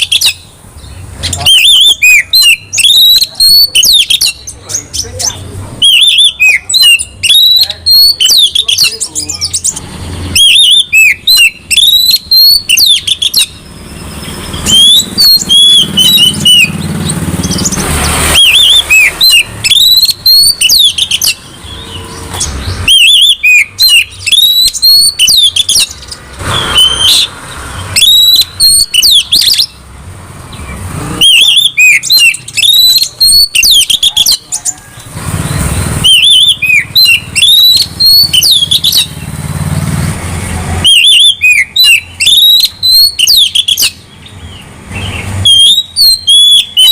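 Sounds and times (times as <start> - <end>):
songbird singing whistles and chirps: 0.0 - 29.8, 30.5 - 39.3, 40.8 - 46.9.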